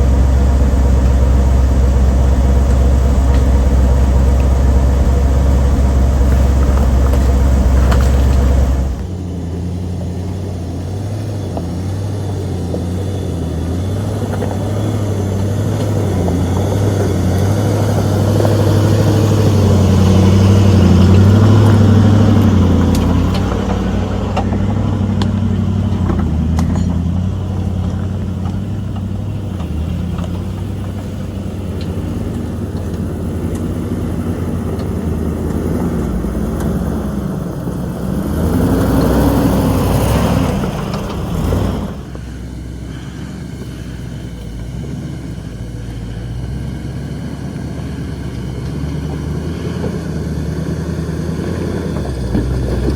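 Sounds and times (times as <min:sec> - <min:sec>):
steady low drone: 0:00.0 - 0:52.9
vehicle engine running: 0:00.0 - 0:52.9.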